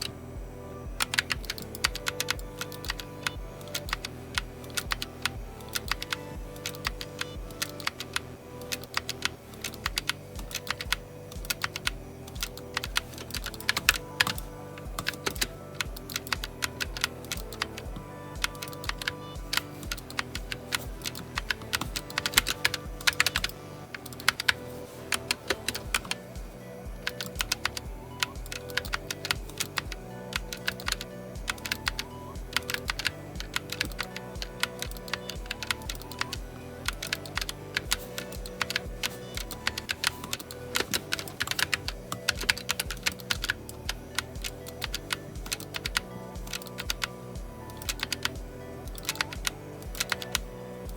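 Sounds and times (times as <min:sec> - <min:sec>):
background music with steady beat: 0:00.0 - 0:50.9.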